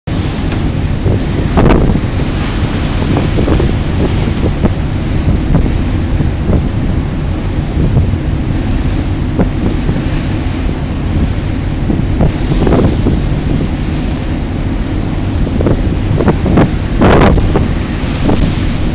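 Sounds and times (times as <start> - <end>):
sea rushing: 0.0 - 18.9
wind buffeting microphone: 0.1 - 18.9.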